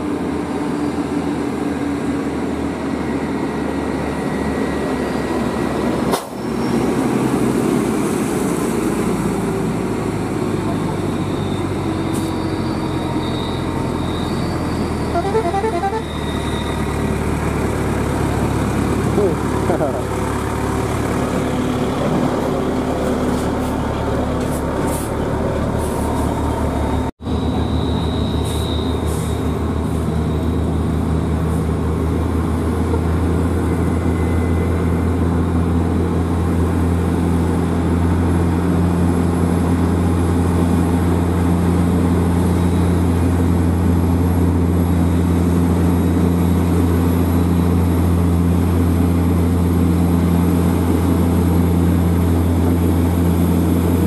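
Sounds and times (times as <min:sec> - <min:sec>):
diesel truck engines droning: 0:00.0 - 0:54.0.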